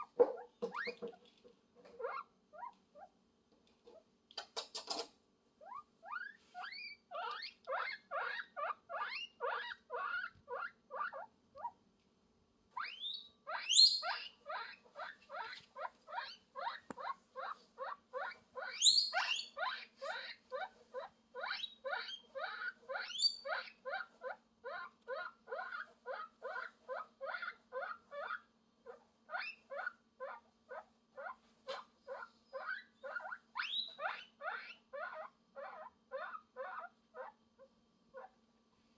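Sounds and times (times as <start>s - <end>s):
guinea pig squeaking: 0.0s - 1.2s, 1.8s - 3.1s, 4.9s - 11.8s, 12.8s - 37.4s, 38.1s - 38.4s.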